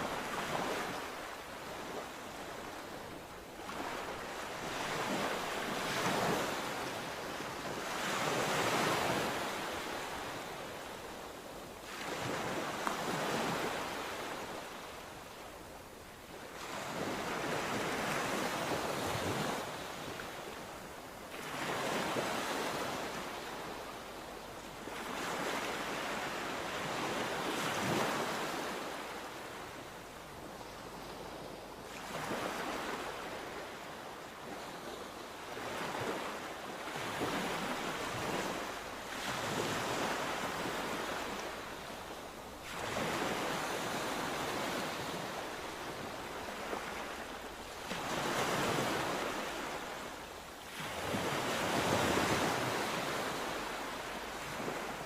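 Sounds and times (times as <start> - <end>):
sea waves breaking on shore: 0.0 - 55.0
wind: 0.0 - 55.0.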